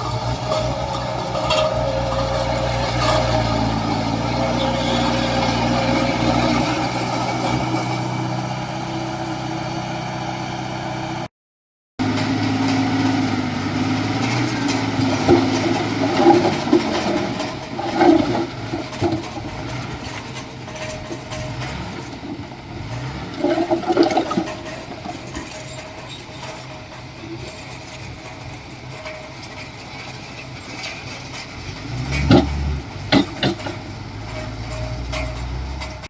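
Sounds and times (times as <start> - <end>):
metal knocks and clanks: 0.0 - 8.3, 12.0 - 36.0
diesel machinery running: 0.0 - 11.3, 12.0 - 36.0.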